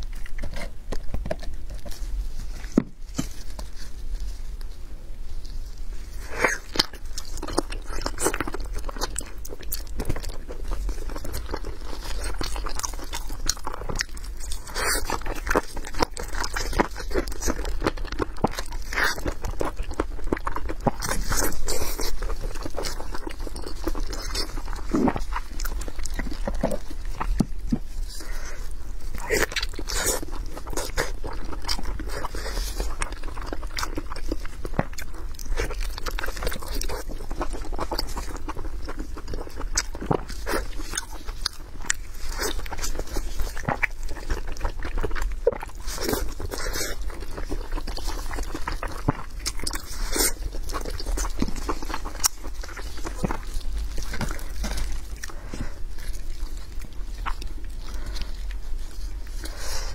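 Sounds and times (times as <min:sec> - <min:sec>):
wet chewing with lip smacks: 0:06.2 - 0:59.9.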